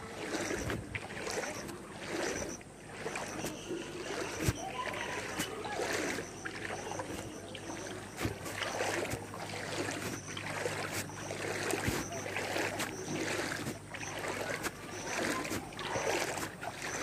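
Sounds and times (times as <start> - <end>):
floodwater sloshing and splashing: 0.0 - 17.0.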